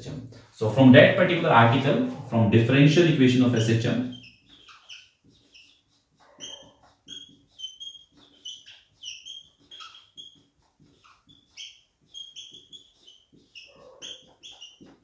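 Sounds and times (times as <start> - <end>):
marker squeaking on whiteboard: 0.4 - 15.0.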